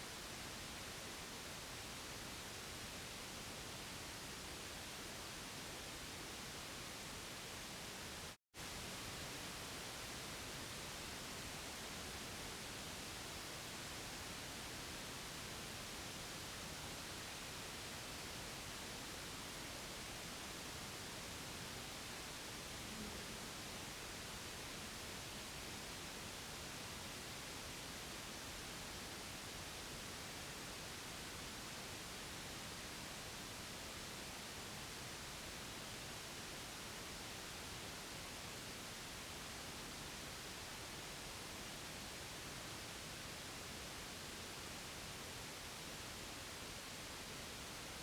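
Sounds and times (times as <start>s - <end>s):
steady white noise hiss: 0.0s - 48.0s.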